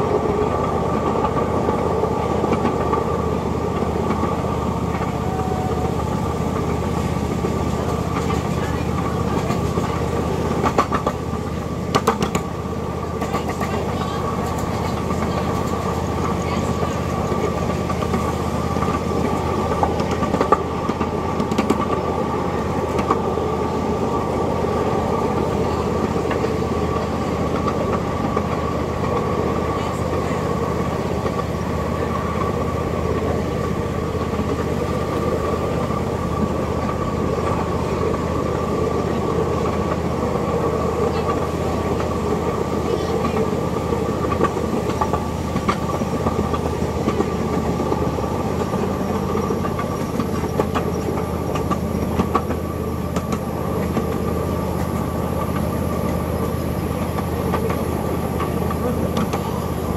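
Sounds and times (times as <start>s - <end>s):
miniature train rumbling: 0.0s - 59.9s
wheels clicking over rail joints: 0.0s - 59.9s.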